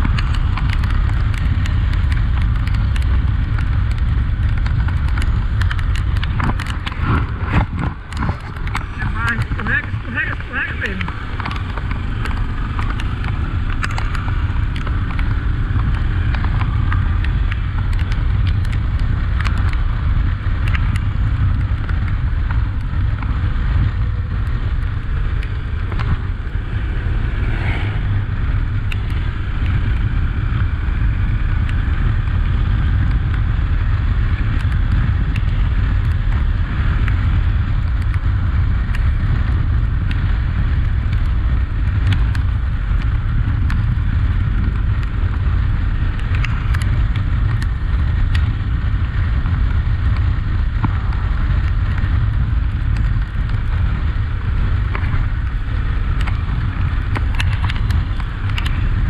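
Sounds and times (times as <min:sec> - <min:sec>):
sharp ticks: 0:00.0 - 0:27.8, 0:31.6 - 0:59.0
motorcycle engine running: 0:00.0 - 0:59.0
wind rumble on microphone: 0:00.0 - 0:59.0.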